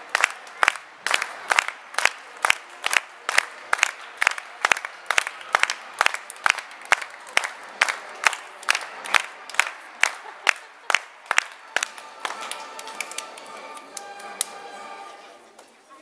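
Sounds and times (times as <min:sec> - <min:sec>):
audience clapping in unison: 0:00.0 - 0:15.1
crowd murmur: 0:00.0 - 0:16.0.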